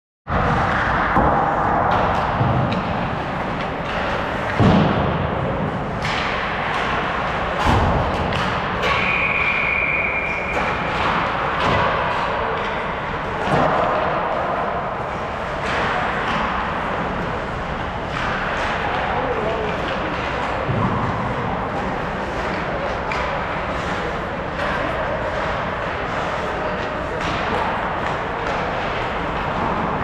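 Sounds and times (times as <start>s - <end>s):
arena noise: 0.3s - 30.0s
pucks and sticks hitting boards: 0.3s - 30.0s.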